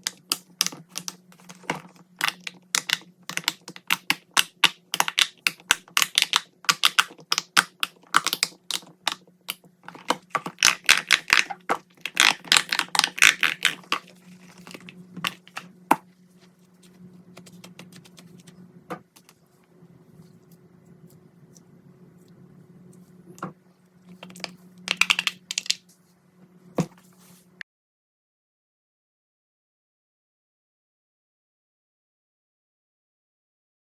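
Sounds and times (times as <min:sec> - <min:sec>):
faint steady hum: 0:00.0 - 0:27.6.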